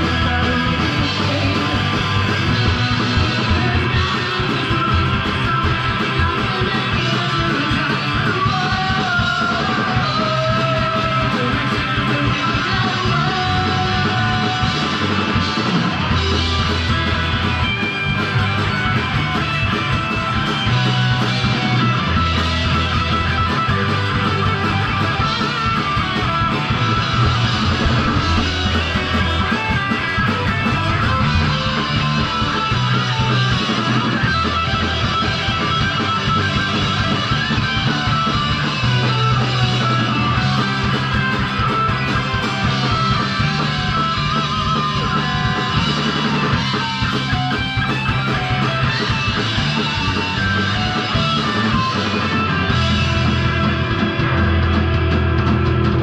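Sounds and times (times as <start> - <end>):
bass guitar: 0.0 - 56.0
distorted electric guitars: 0.0 - 56.0
drums: 0.0 - 56.0.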